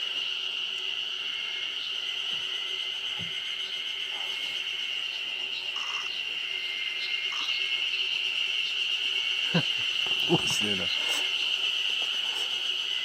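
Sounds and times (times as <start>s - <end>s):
cicadas droning: 0.0s - 13.0s
bird calls: 1.3s - 13.0s.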